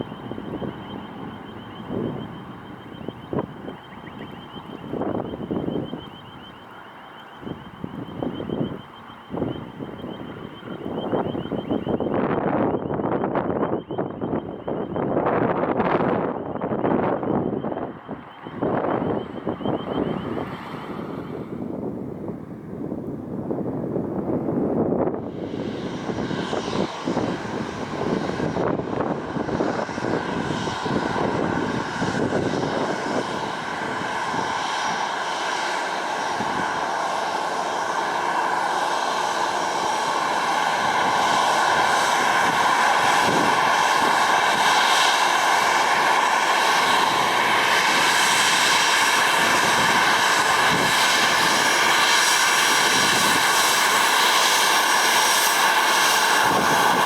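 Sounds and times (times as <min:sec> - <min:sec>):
jet engines whining: 0:00.0 - 0:57.0
wind buffeting microphone: 0:00.0 - 0:57.0.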